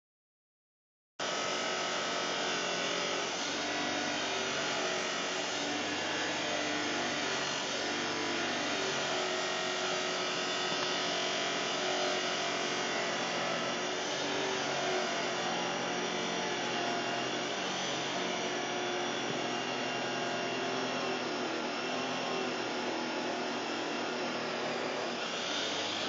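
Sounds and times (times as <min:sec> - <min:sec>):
chop saw cutting metal: 0:01.2 - 0:26.0.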